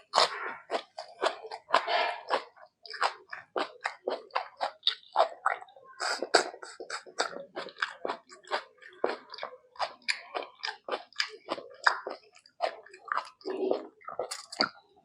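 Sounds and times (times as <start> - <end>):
close-up chewing with mouth clicks: 0.0 - 14.9.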